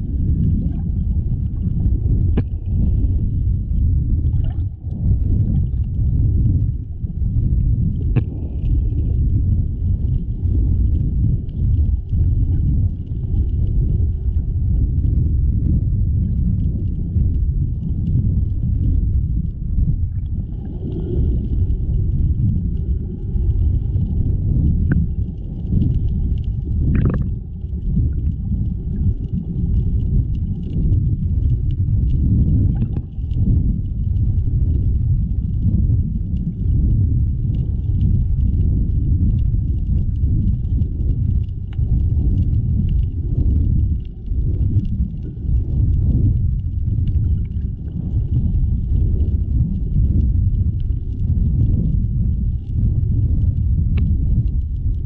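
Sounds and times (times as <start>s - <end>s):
faint clicks and crackles: 0.0s - 55.0s
muffled underwater rumble: 0.0s - 55.0s.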